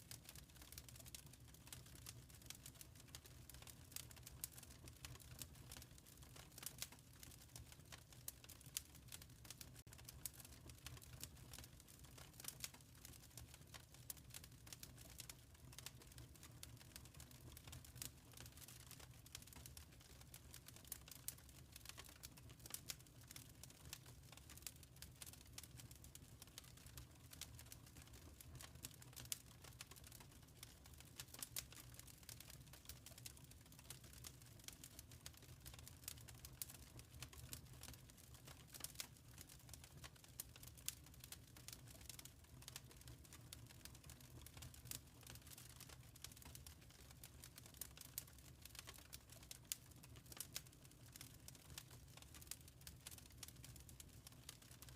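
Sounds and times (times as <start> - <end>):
wood fire crackling faintly: 0.0 - 54.9.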